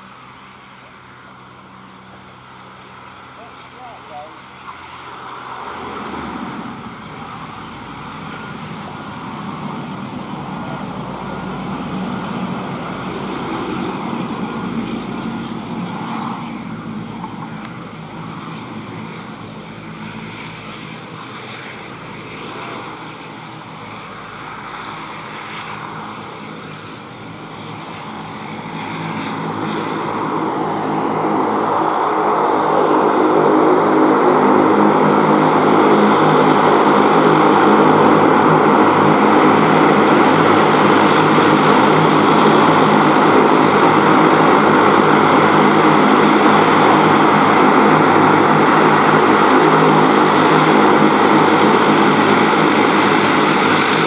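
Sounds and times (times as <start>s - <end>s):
turboprop aircraft taxiing: 0.0s - 54.0s.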